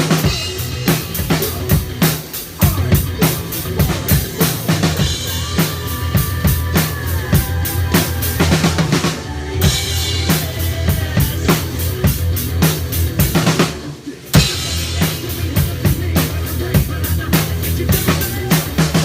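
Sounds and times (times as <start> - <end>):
bass line: 0.0 - 19.0
rock drum kit beat: 0.0 - 19.0.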